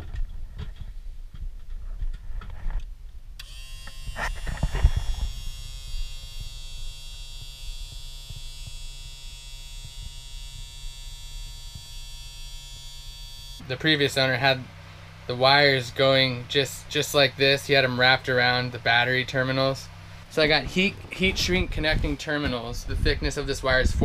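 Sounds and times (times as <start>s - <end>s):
electric pump buzzing hum: 3.2s - 24.0s.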